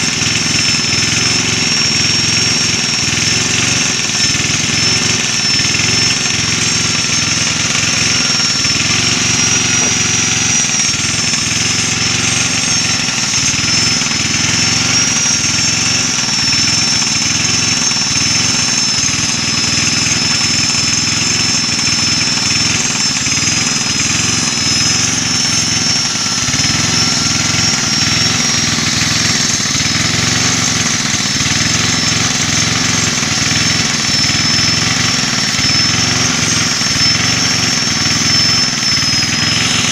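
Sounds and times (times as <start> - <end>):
angle grinder whining: 0.0 - 39.9
grinding on chainsaw chain: 0.0 - 39.9.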